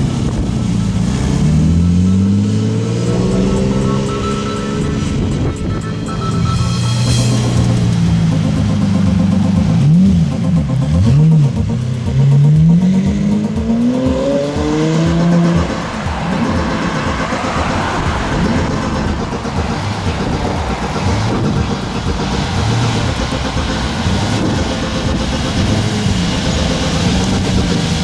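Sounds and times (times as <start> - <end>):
road noise rushing: 0.0 - 28.0
sports car engine revving: 0.0 - 28.0.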